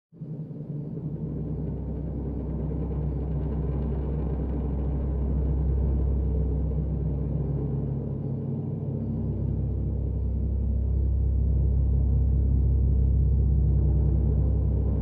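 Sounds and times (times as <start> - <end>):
low rumbling drone: 0.2 - 15.0.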